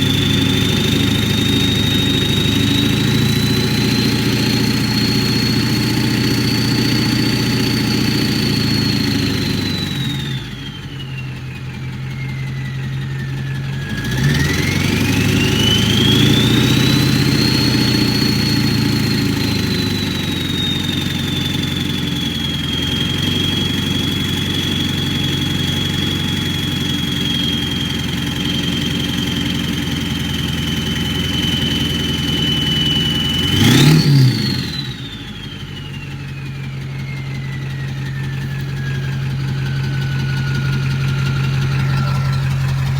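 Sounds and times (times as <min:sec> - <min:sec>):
diesel engine running: 0:00.0 - 0:42.9
high turbocharger whistle: 0:00.0 - 0:42.9.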